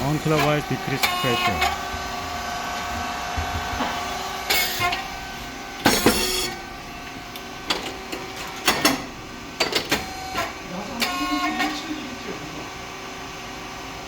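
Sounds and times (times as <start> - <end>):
machine pump and fan hum: 0.0 - 14.0.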